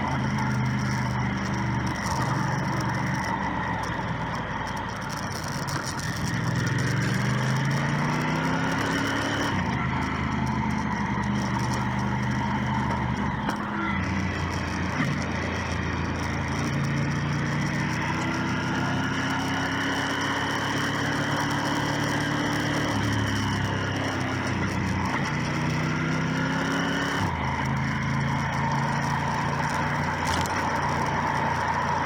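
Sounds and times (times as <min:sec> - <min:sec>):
motorcycle engine revving: 0:00.0 - 0:32.0
wind and road noise: 0:00.0 - 0:32.0.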